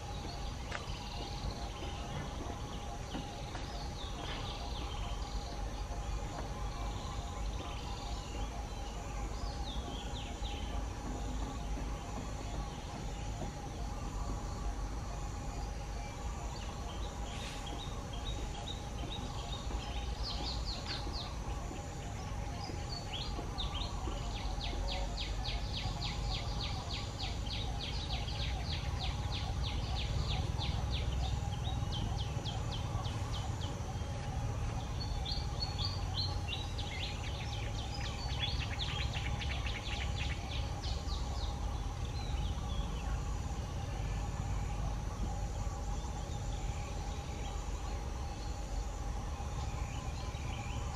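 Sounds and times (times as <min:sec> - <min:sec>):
faint high hum: 0:00.0 - 0:50.9
steady low rumble: 0:00.0 - 0:50.9.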